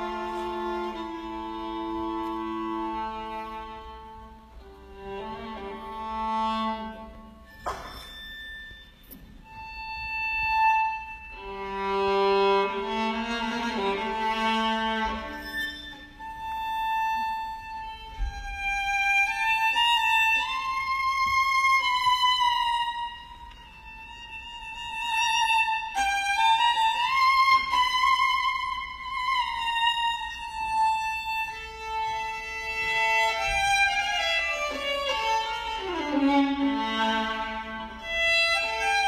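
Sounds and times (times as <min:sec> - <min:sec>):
violin playing slow melody: 0:00.0 - 0:39.0.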